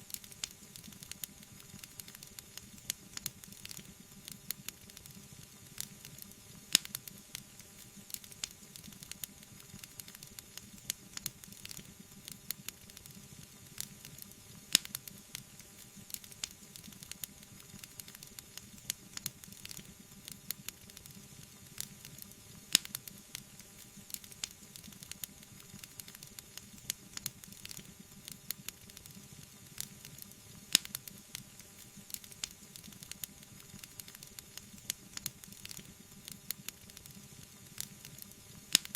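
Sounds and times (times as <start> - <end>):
soft hiss: 0.0 - 38.9
wood fire crackling: 0.0 - 38.9.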